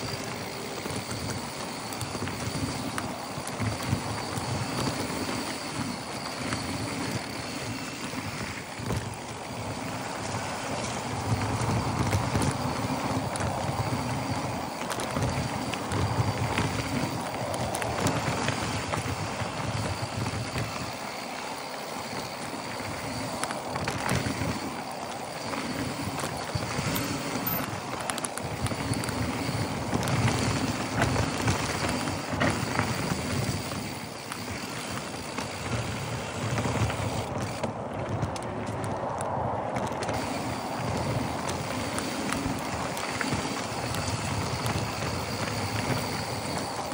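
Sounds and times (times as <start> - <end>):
bike rattling over bumps: 0.0 - 46.9
bike tyres rolling on dirt: 0.0 - 46.9.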